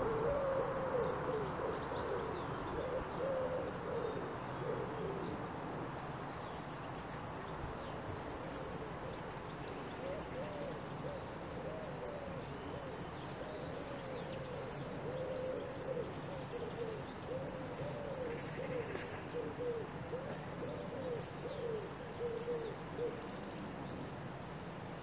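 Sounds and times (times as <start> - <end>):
bird cooing: 0.0 - 5.5, 8.3 - 9.3, 10.0 - 23.5.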